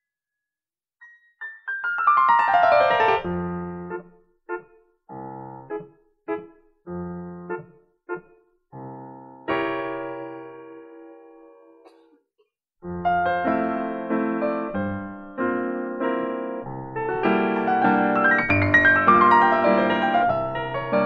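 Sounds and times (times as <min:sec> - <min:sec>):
grand piano chords: 0:01.0 - 0:12.0, 0:12.8 - 0:21.0.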